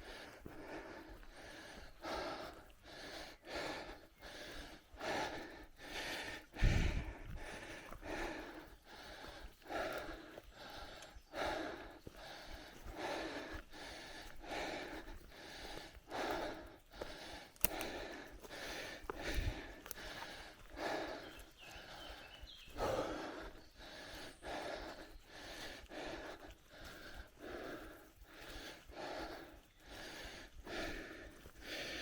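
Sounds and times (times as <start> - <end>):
person breathing heavily: 0.0 - 32.0.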